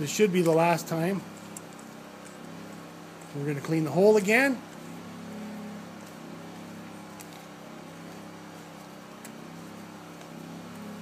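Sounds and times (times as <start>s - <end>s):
faint low background hum: 0.0s - 11.0s.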